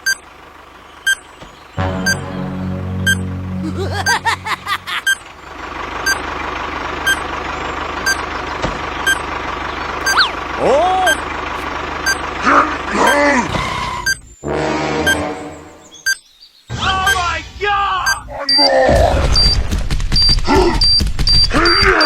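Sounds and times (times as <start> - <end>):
vehicle reversing alarm beeping: 0.0 - 0.3, 1.0 - 5.4, 6.0 - 6.4, 7.0 - 14.4, 15.0 - 16.3, 17.0 - 17.3, 18.0 - 22.0
engine hum: 0.0 - 22.0.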